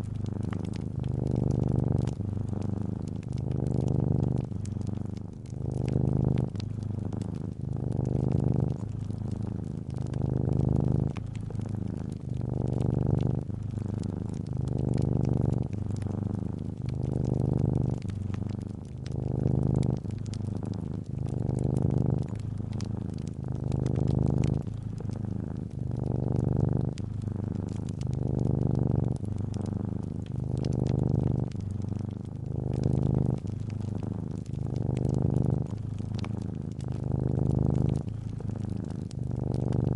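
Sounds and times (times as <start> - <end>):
cat purring: 0.0 - 39.9
fireplace fire crackling: 0.0 - 39.9.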